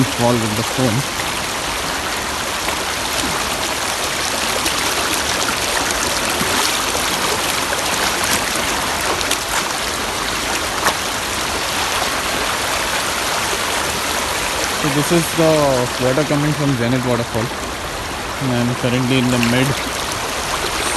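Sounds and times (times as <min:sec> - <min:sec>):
faint splashes: 0:00.0 - 0:20.9
shallow river rushing: 0:00.0 - 0:20.9.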